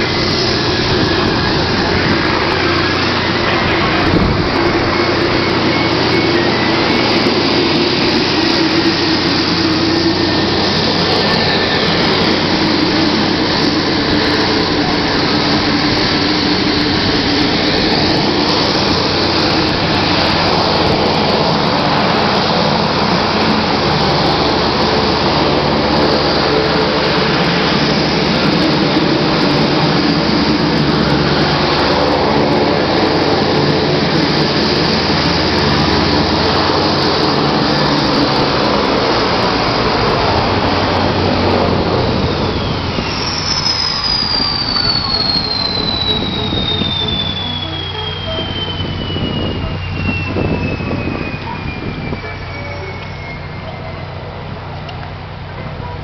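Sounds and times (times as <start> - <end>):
large vehicle engine idling: 0.0 - 56.0.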